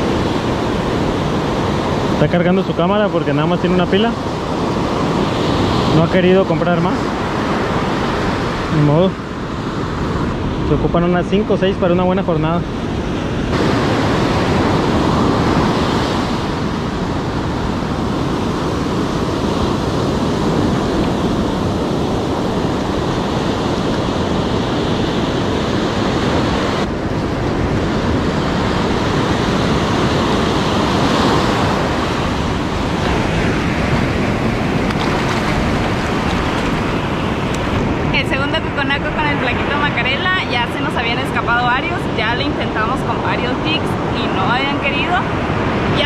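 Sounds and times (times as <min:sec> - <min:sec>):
surf breaking on beach: 0:00.0 - 0:46.0
wind on microphone: 0:00.0 - 0:46.0.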